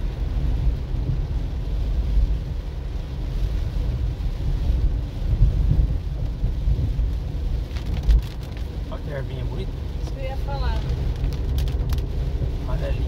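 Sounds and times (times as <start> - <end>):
car cabin rumble: 0.0 - 13.0
tyres hissing on wet road: 0.0 - 13.0.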